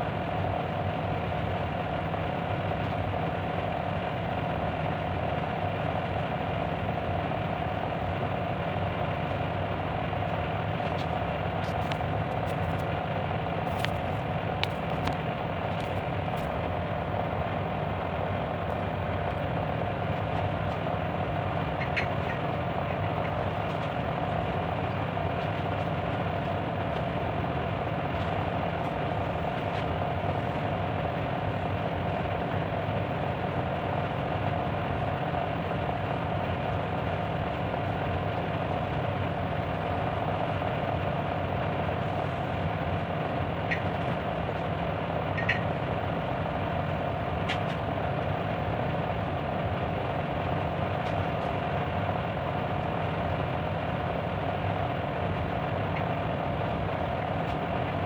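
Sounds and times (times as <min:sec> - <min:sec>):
constant mid-pitched tone: 0:00.0 - 0:58.0.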